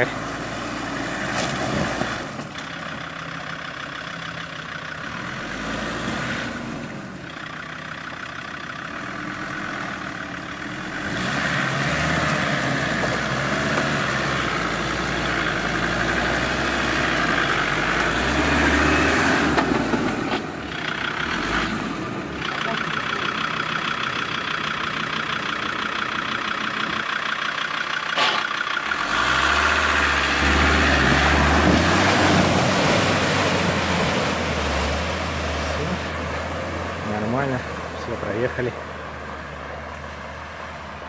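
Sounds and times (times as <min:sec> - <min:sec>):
vehicle engine crawling through mud: 0:00.0 - 0:41.0.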